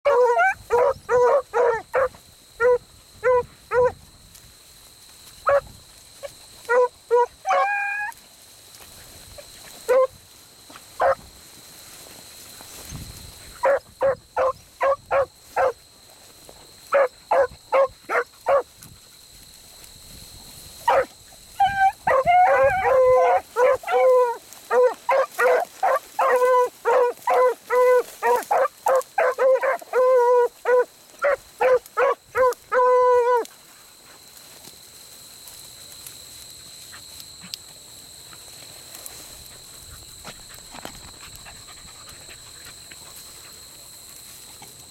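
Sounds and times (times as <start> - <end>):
hounds baying and barking: 0.0 - 4.0, 5.4 - 8.2, 8.8 - 10.2, 10.8 - 11.3, 13.4 - 15.9, 16.8 - 19.4, 20.8 - 34.7, 35.4 - 44.9.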